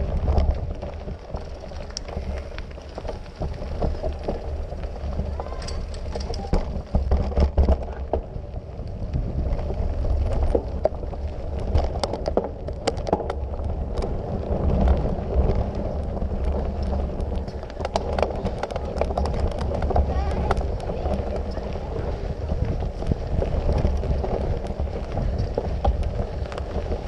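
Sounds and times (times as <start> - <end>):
bike rattling over bumps: 0.0 - 27.0
tyres on dirt and stones: 0.0 - 27.0
wind rumbling on microphone: 0.0 - 27.0.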